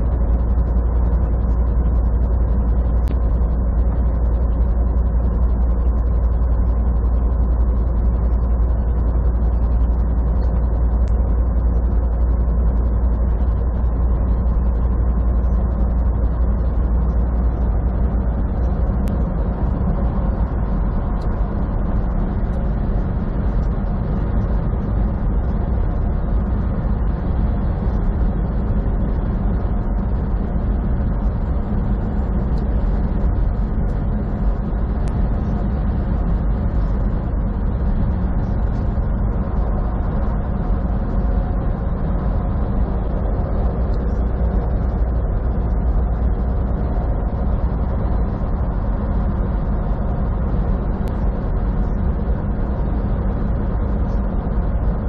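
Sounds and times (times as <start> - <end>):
truck engine and tyre drone: 0.0 - 55.0.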